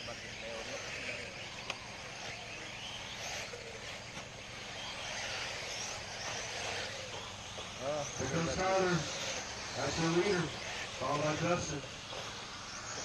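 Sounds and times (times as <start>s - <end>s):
rc car motors whining: 0.0s - 13.0s
steady noise: 0.0s - 13.0s.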